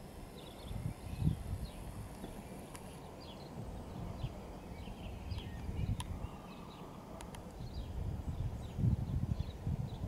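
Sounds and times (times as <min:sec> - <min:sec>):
small birds chirping: 0:00.0 - 0:10.0
wind rumble on microphone: 0:00.0 - 0:10.0.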